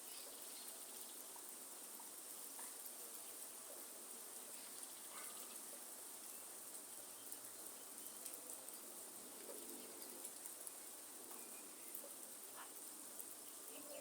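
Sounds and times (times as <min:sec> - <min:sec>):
rain patter in a forest: 0:00.0 - 0:14.0.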